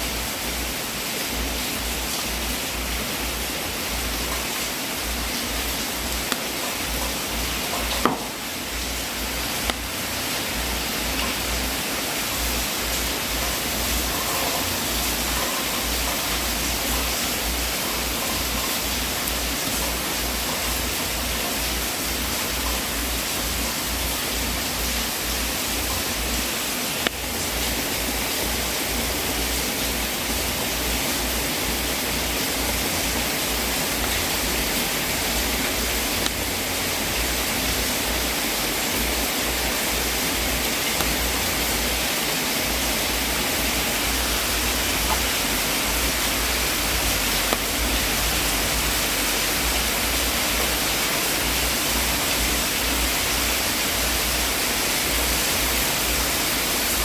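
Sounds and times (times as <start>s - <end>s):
wood fire hissing: 0.0s - 57.0s.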